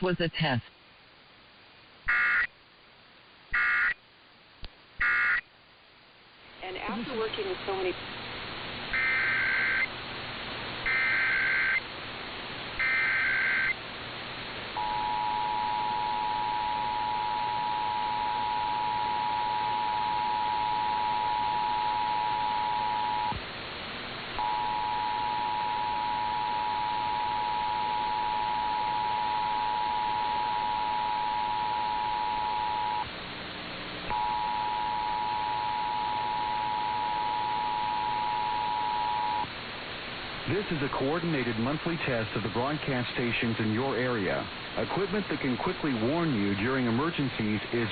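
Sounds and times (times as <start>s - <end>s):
broadcast hiss: 0.0s - 47.9s.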